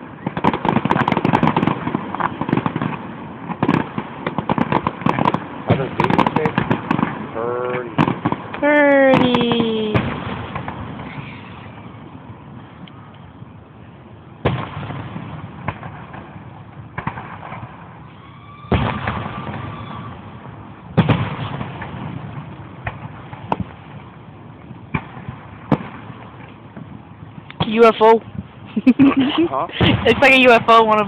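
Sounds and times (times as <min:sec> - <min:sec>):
firework bangs: 0:00.0 - 0:31.0.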